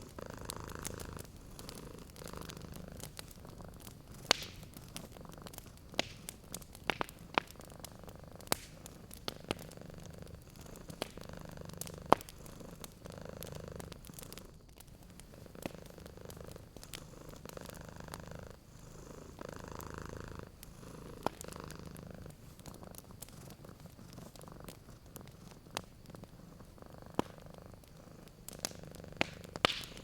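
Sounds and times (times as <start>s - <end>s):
cat purring: 0.0s - 30.0s
wood fire crackling: 0.0s - 30.0s.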